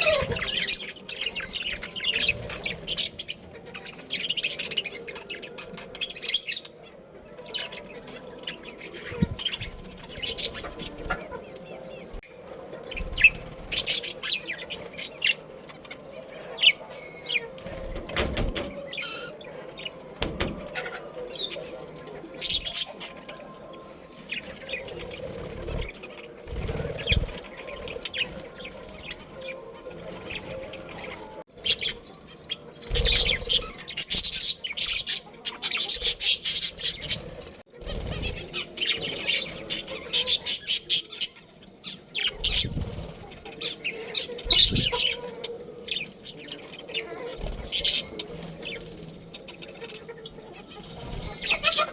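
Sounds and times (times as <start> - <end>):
budgerigars chirping and chattering: 0.0 - 51.9.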